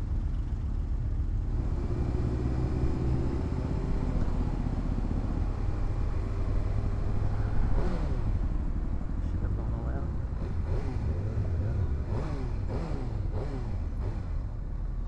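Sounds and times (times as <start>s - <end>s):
motorcycle engine running: 0.0s - 2.1s, 3.1s - 15.0s
wind and road noise: 0.0s - 15.0s.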